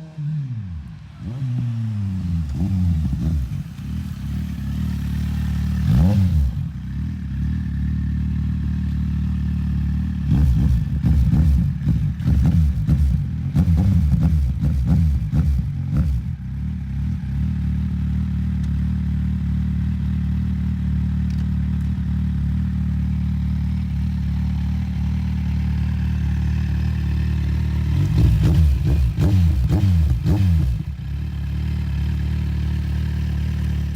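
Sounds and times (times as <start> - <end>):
motorcycle engine revving: 0.0 - 33.9
motorcycle engine idling: 0.8 - 33.9.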